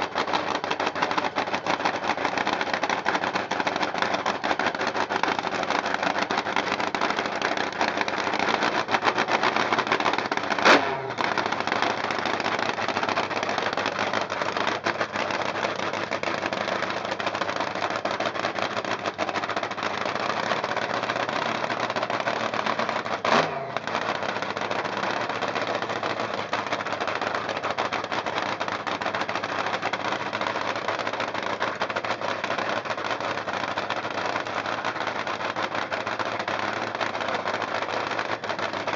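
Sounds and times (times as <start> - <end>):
dragster engine idling loudly: 0.0 - 38.9.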